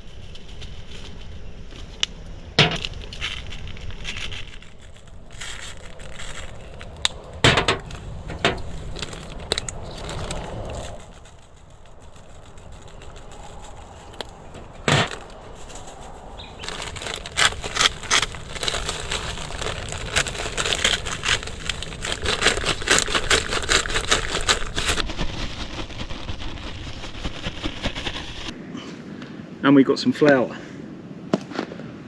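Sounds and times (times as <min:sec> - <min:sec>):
campfire crackling and popping: 0:01.8 - 0:15.8, 0:16.4 - 0:28.6.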